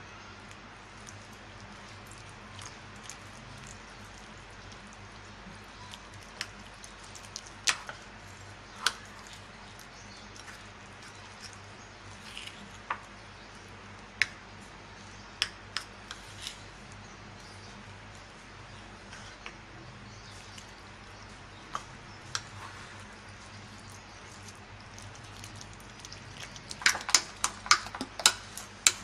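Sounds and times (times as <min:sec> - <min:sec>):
low steady hum: 0:00.0 - 0:29.0
spoon stirring dough in a bowl: 0:00.8 - 0:29.0.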